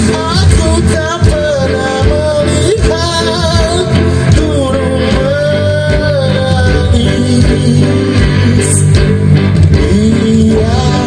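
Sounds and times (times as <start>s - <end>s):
guitar and bass: 0.0s - 11.0s
person singing: 0.0s - 11.0s.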